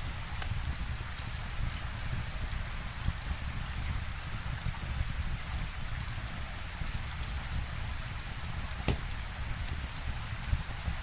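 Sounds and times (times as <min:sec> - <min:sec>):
steady rainfall: 0:00.0 - 0:11.0
wood fire crackling: 0:00.0 - 0:11.0.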